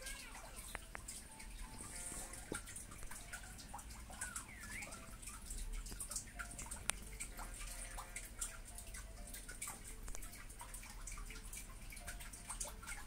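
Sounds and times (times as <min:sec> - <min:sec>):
small clicks and ticks: 0:00.0 - 0:13.0.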